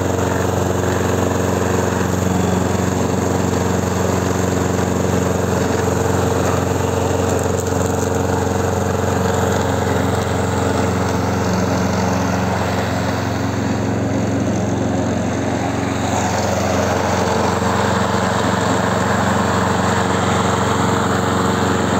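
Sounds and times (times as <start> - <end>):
lawn mower engine running: 0.0 - 21.9.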